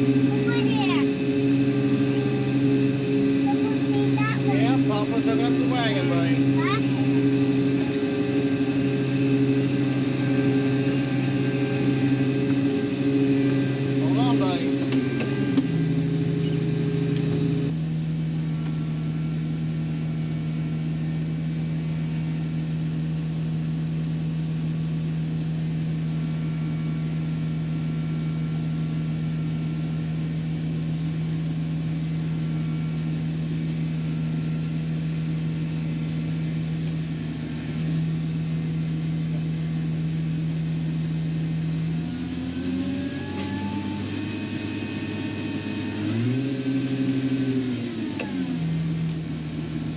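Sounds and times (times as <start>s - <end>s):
farm machinery engine running: 0.0s - 49.9s.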